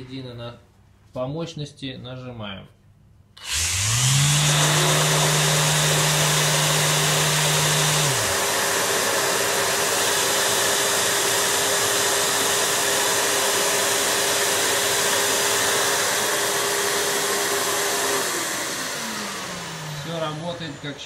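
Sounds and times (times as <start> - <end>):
vacuum cleaner running: 3.4 - 21.0.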